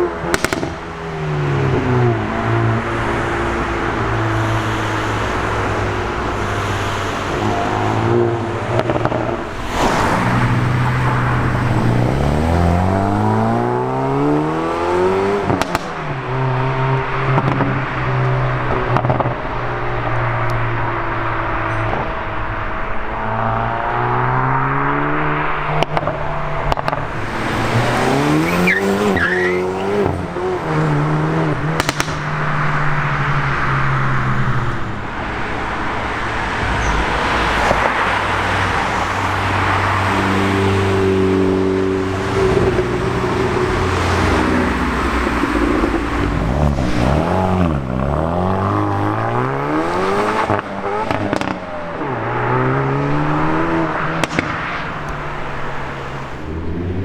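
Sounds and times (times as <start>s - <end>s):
car engine revving and accelerating: 0.0s - 57.0s
sharp exhaust crackles: 0.0s - 57.0s.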